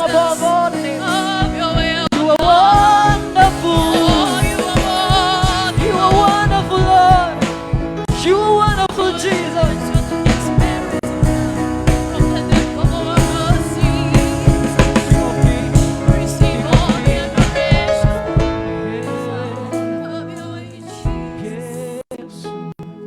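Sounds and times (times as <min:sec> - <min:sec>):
drum kit beat: 0:00.0 - 0:19.9, 0:21.0 - 0:21.6
sustained keyboard chords: 0:00.0 - 0:21.7
person singing: 0:00.0 - 0:23.0.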